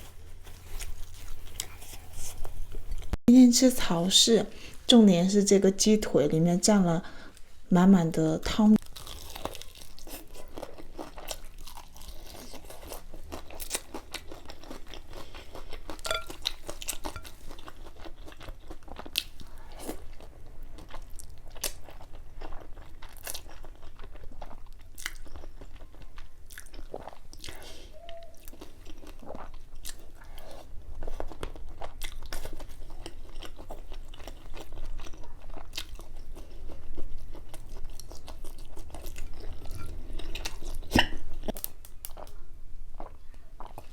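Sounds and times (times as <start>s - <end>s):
person chewing crunchy food: 0.0s - 3.2s, 8.8s - 43.9s.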